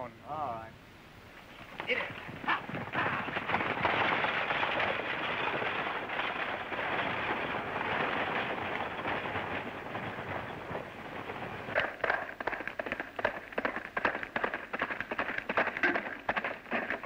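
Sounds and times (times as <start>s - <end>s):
horses galloping hoofbeats: 1.2s - 17.0s.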